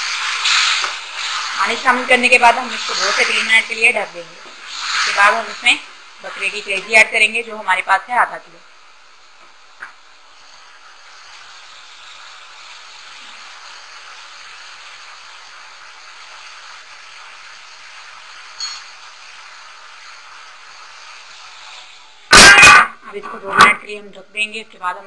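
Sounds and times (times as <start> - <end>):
sauce sizzling and bubbling in pan: 0.0 - 24.8.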